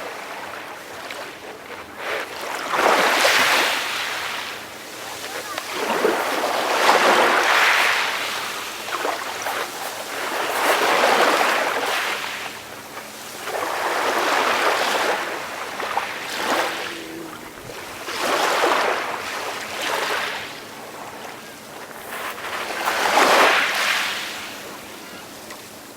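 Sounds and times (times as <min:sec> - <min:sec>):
calm waves washing in: 0:00.0 - 0:25.9.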